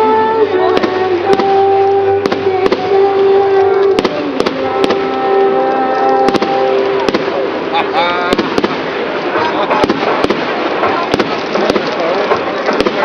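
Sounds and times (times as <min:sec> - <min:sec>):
fireworks bangs: 0:00.0 - 0:13.0
sustained musical notes: 0:00.0 - 0:13.0.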